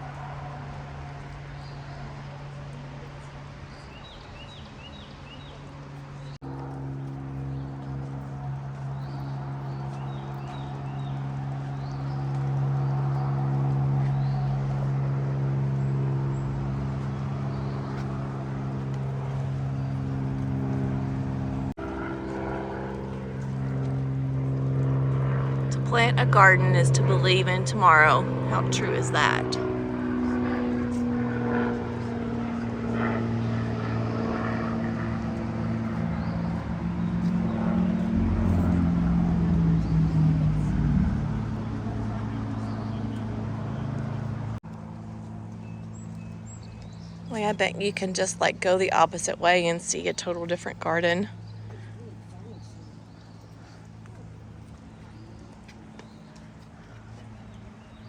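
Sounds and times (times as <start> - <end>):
engine droning steadily: 0.0 - 58.0.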